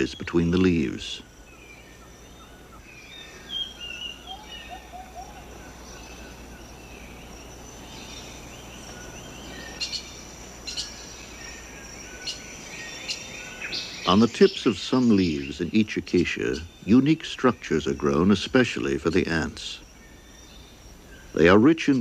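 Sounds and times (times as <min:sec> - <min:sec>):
birds chirping and calling: 0:00.0 - 0:22.0
high insect drone: 0:00.0 - 0:22.0.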